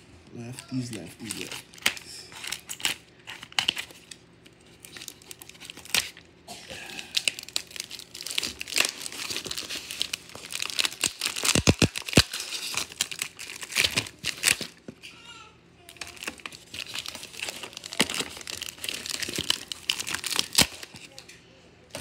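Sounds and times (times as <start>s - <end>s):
plastic crinkling and tearing: 0.6s - 6.3s, 6.9s - 14.9s, 15.8s - 21.3s.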